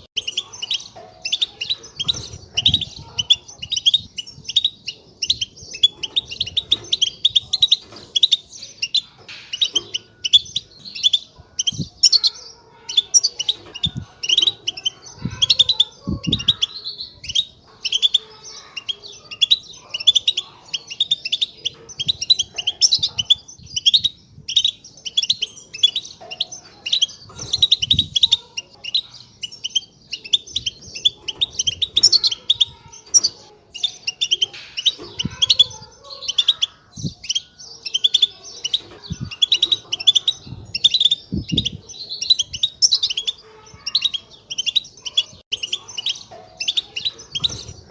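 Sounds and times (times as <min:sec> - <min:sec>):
flock of finches chattering: 0:00.0 - 0:47.9.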